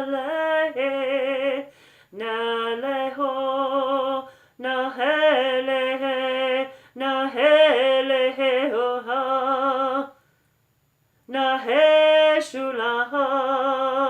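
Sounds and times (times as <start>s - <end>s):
woman singing wordless tones: 0.0s - 10.2s, 11.2s - 14.0s.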